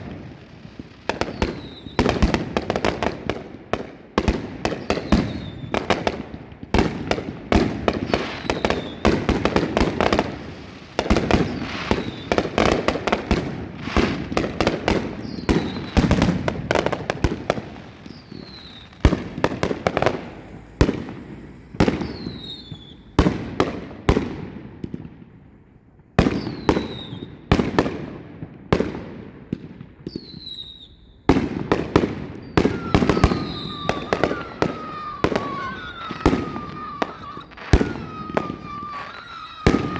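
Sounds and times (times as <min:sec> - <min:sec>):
falling firework whistles: 0:00.0 - 0:25.0, 0:26.2 - 0:27.5, 0:30.0 - 0:39.9
fireworks bangs: 0:00.0 - 0:39.9.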